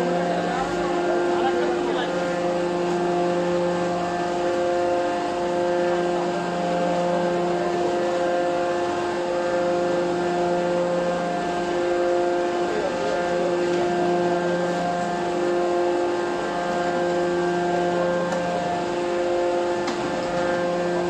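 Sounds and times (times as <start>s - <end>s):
hydraulic pump humming: 0.0s - 21.0s.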